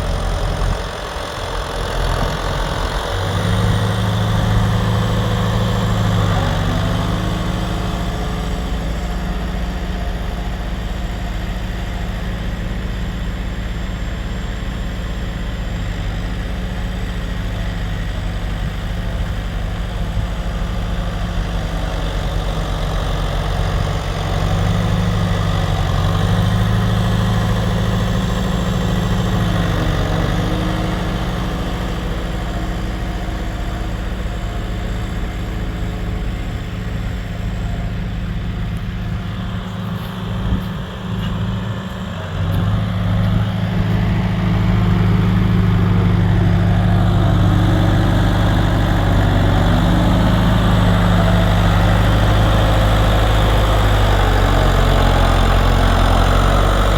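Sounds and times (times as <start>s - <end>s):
farm machinery engine running: 0.0s - 56.9s.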